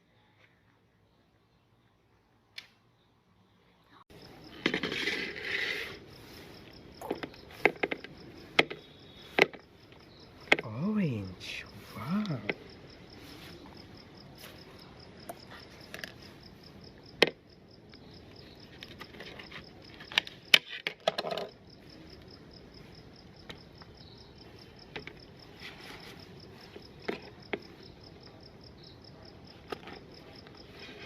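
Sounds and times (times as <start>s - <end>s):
crickets chirping: 4.1s - 31.0s.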